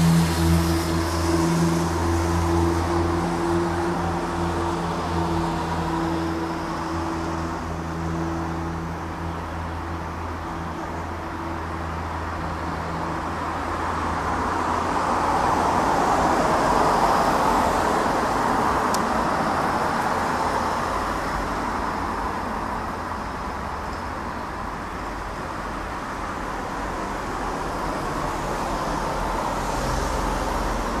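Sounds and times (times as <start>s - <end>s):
jet engines rushing rumble: 0.0s - 31.0s.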